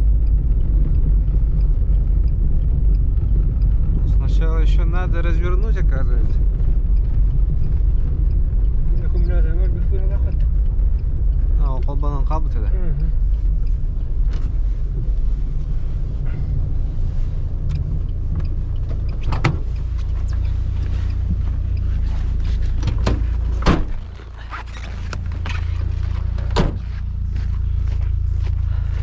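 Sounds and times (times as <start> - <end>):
motor vehicle rumble: 0.0 - 29.0.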